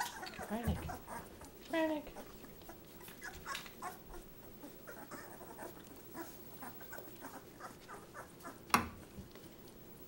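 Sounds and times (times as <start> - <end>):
puppies squeaking and whimpering: 0.0 - 9.2.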